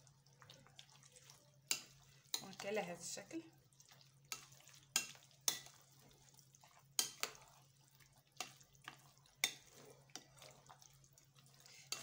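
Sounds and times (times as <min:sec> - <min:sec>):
wet squelch: 0:00.0 - 0:12.0.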